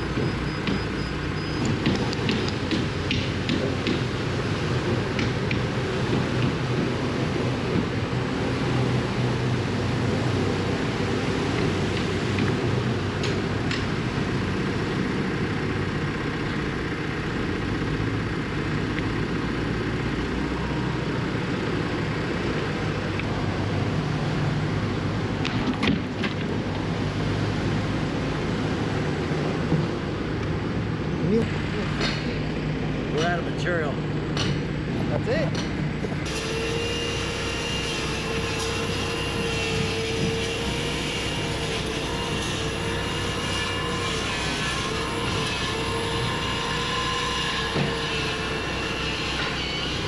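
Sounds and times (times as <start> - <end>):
diesel engine under load: 0.0 - 50.0.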